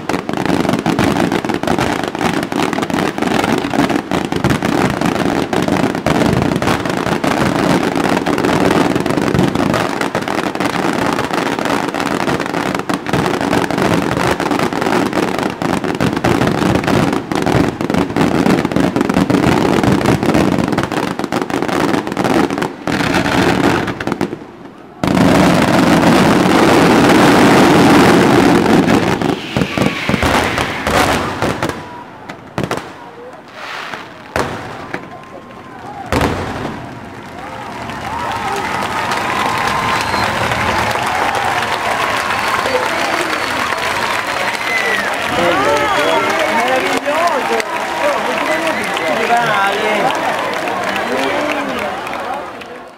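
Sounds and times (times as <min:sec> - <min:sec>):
fireworks bangs and crackling: 0:00.0 - 0:52.6.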